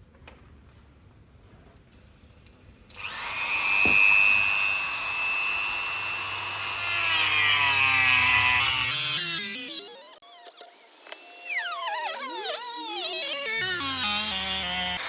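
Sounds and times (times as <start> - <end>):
power tool motor whine: 2.9 - 15.0.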